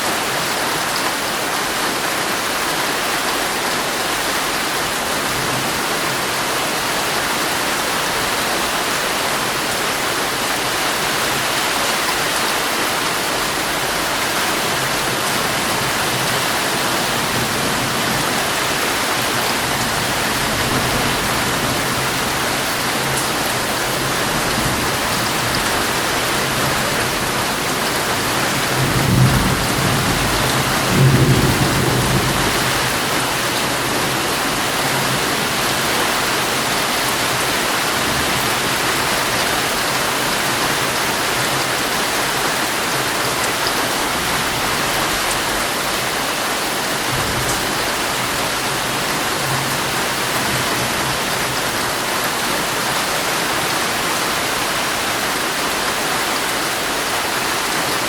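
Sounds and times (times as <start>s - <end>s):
heavy rain drumming on tent: 0.0s - 58.0s.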